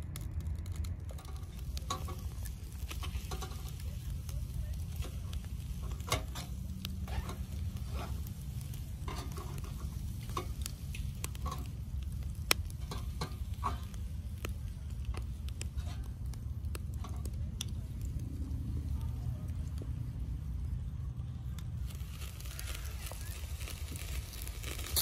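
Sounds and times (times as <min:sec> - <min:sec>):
kebabs sizzling on charcoal grill: 0:00.0 - 0:25.0
low rumble: 0:00.0 - 0:25.0
pops and crackles: 0:00.0 - 0:25.0.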